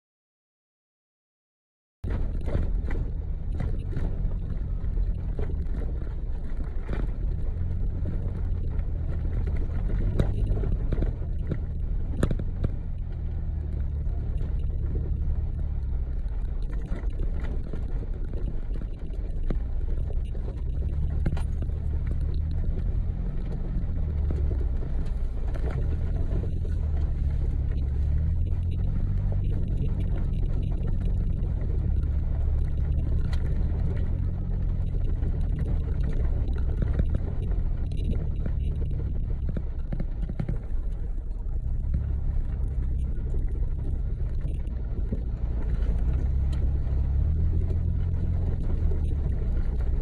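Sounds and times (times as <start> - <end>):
off-road vehicle engine rumble: 2.0 - 50.0.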